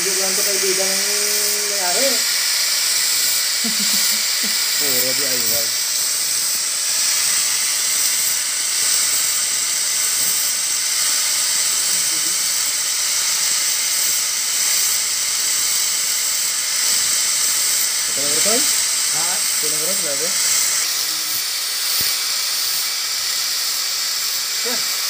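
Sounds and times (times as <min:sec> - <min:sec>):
angle grinder grinding: 0:00.0 - 0:25.0.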